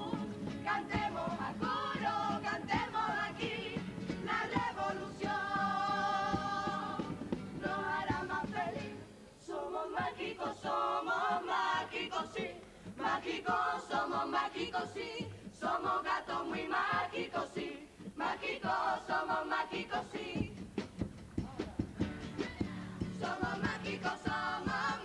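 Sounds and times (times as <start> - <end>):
percussion strokes: 0.0 - 9.0, 13.0 - 25.0
choir singing in harmony: 0.0 - 20.6, 22.6 - 25.0.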